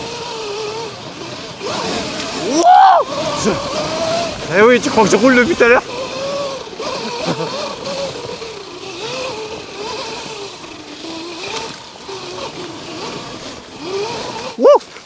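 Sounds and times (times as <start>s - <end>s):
electric motor whining: 0.0s - 15.0s
wind and tyres through leaves: 0.0s - 15.0s.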